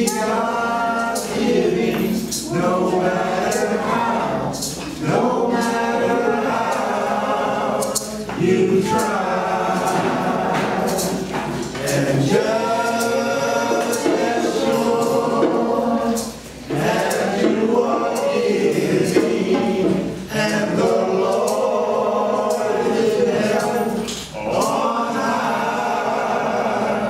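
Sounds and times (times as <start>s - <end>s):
church choir singing gospel: 0.0s - 27.0s.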